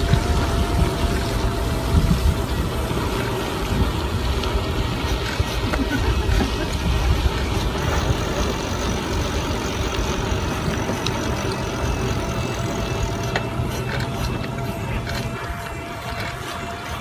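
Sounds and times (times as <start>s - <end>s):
bicycle tyres on paved street: 0.0s - 17.0s
wind buffeting microphone: 0.0s - 17.0s.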